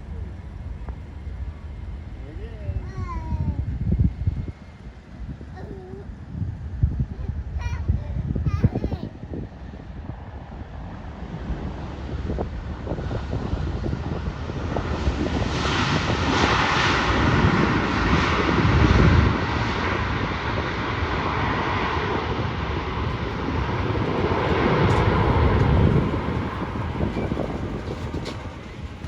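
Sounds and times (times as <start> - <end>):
jet engines passing: 0.0 - 29.0.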